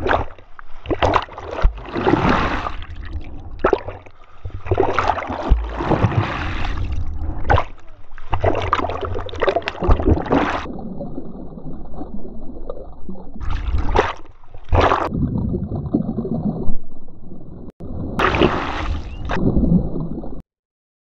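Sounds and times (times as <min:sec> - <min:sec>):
seawater splashing and gurgling: 0:00.0 - 0:16.6, 0:17.9 - 0:20.4.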